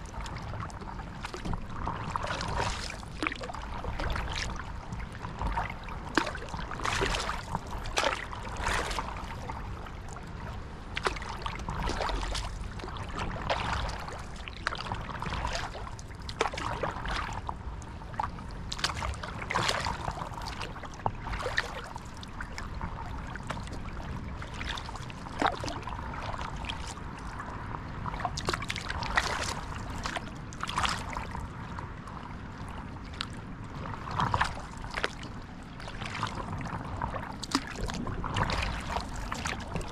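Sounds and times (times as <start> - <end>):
small water splashes and drips: 0.0 - 10.2, 10.9 - 27.4, 28.1 - 31.4, 34.0 - 39.9
steady low rumble: 0.0 - 39.9.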